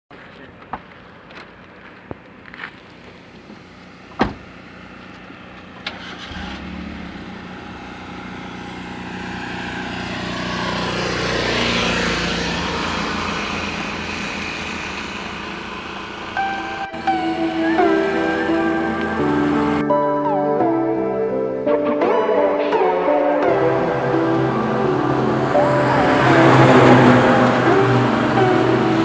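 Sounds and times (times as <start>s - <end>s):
road vehicle passing: 0.3s - 20.0s, 23.5s - 29.0s.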